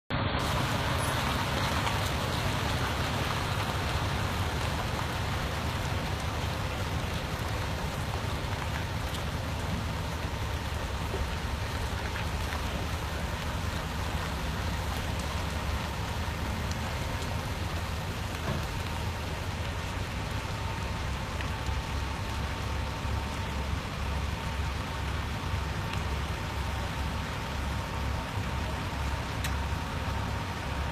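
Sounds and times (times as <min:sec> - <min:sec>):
diesel truck engine running: 0:00.1 - 0:30.9
constant hiss: 0:00.2 - 0:30.9.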